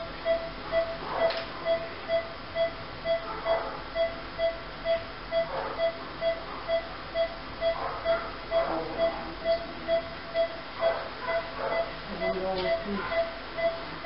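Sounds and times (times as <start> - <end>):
patient monitor beeping: 0.0 - 14.0.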